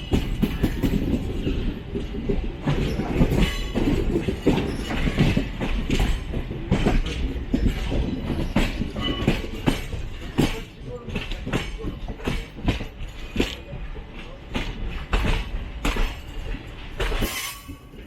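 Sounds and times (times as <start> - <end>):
train low rumble: 0.0 - 18.0
train wheels clattering over rails: 0.0 - 18.0.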